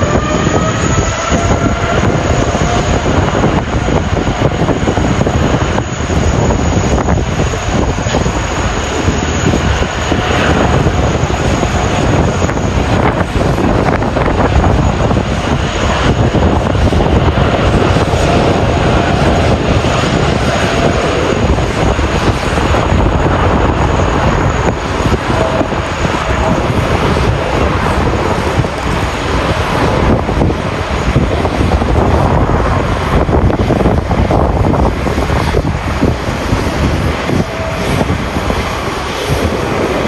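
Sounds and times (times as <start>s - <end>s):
airliner jet engines at high thrust: 0.0s - 40.0s.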